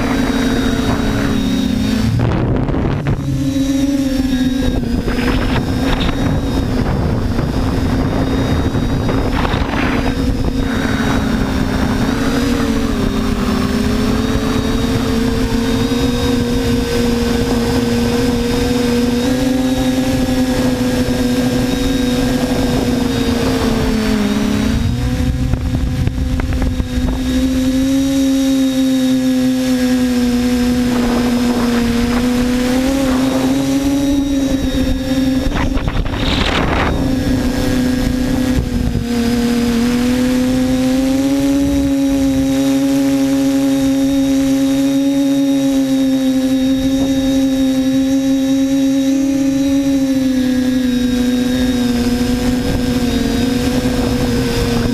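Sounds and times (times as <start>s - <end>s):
quadcopter motors buzzing: 0.0s - 54.9s.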